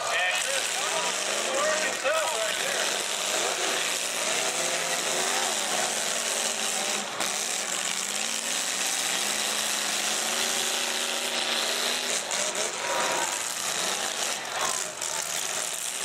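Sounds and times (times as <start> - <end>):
car engines revving: 0.0 - 16.0
harsh steady roar: 0.0 - 16.0
wheels spinning: 0.0 - 16.0.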